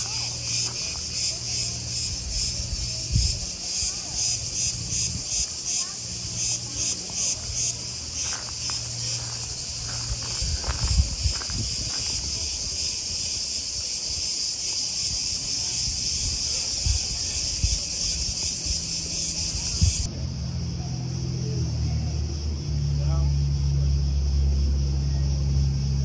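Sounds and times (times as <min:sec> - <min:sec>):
cicadas buzzing: 0:00.0 - 0:26.0.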